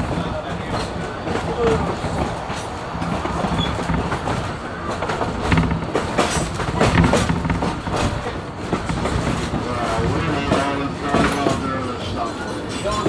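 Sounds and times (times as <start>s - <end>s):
railroad car rumbling on track: 0.0s - 13.0s
wheels and couplings clacking: 0.0s - 13.0s.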